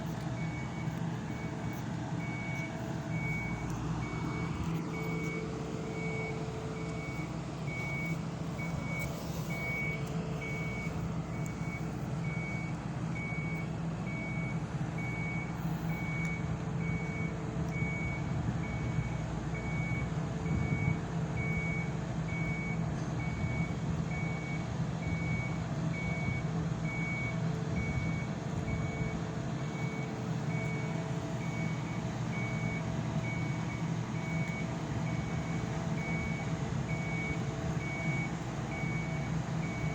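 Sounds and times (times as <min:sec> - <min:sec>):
diesel engine running: 0:00.0 - 0:39.9
reversing alarm beeping: 0:00.0 - 0:39.9.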